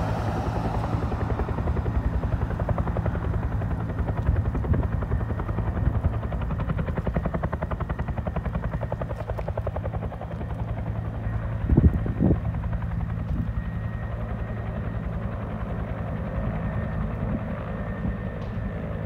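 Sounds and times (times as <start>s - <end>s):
helicopter rotor chopping: 0.0s - 19.0s
turbine engines running: 0.0s - 19.0s.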